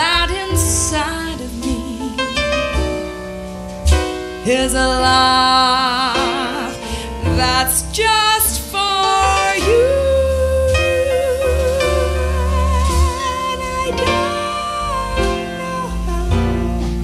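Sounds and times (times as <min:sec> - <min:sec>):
woman singing with vibrato: 0:00.0 - 0:02.7, 0:04.4 - 0:17.0
drums: 0:00.0 - 0:17.0
electric bass: 0:00.0 - 0:17.0
piano: 0:00.0 - 0:17.0.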